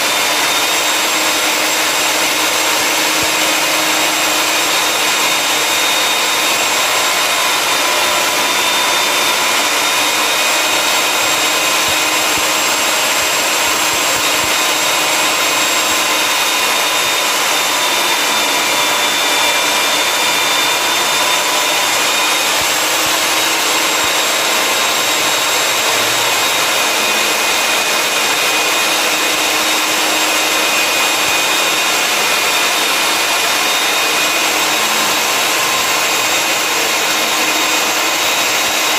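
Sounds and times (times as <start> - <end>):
core drill cutting into floor: 0.0 - 38.9.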